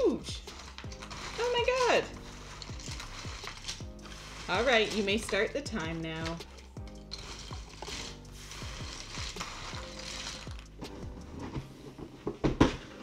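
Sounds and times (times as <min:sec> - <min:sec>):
cardboard puzzle pieces shuffled: 0:00.4 - 0:06.5, 0:07.1 - 0:11.7.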